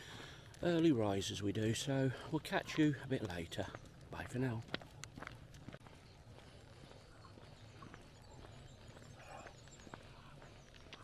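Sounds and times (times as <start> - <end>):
faint footsteps: 0.0 - 11.0.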